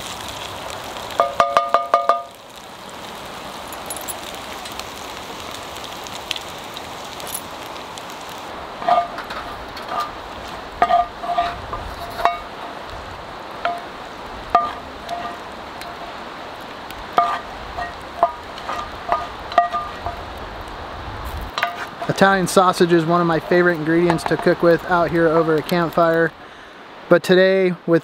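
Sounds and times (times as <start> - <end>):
steady low hiss: 0.0 - 28.0.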